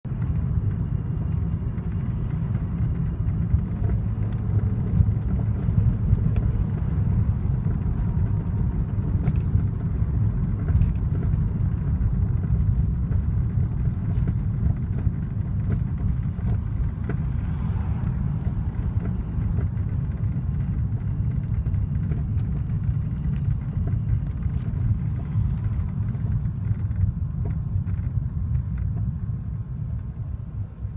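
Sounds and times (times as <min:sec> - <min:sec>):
road and engine rumble: 0:00.0 - 0:30.9
car interior knocks and rattles: 0:00.1 - 0:30.3.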